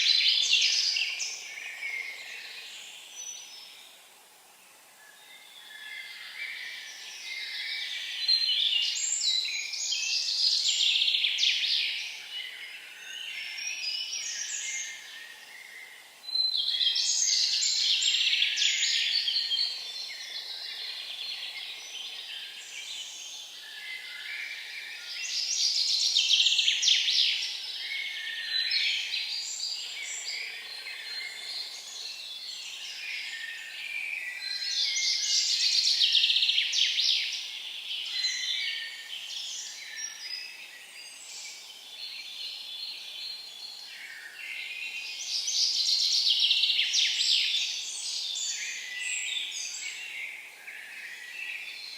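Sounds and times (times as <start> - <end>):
songbird singing: 0.0 - 4.1, 4.9 - 51.9.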